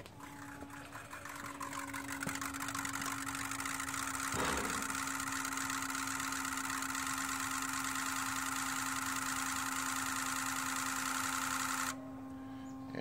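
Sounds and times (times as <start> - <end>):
injectors clattering: 0.0 - 12.0
steady hum: 0.0 - 13.0.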